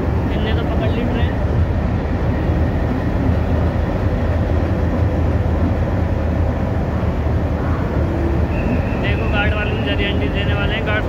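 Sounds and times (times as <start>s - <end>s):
station noise: 0.0s - 11.0s
train low rumble: 0.0s - 11.0s.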